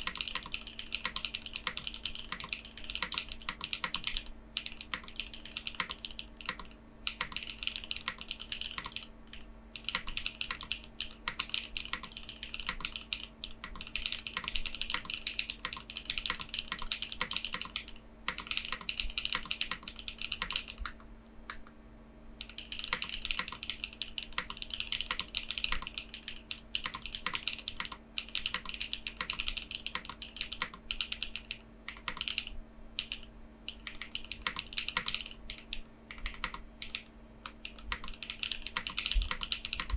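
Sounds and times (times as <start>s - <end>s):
mechanical keyboard typing clacks: 0.0s - 21.0s, 22.4s - 39.9s.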